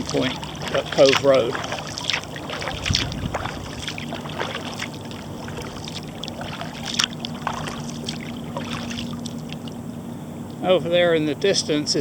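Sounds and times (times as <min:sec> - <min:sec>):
kayak paddle splashing: 0:00.0 - 0:09.9
faint low hum: 0:00.0 - 0:12.0.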